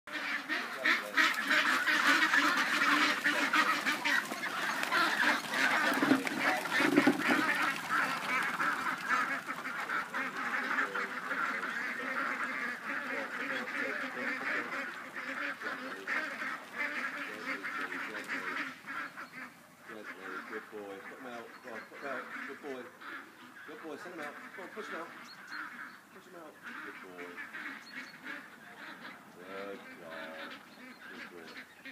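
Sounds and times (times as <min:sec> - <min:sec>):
ducks quacking: 0:00.1 - 0:31.9.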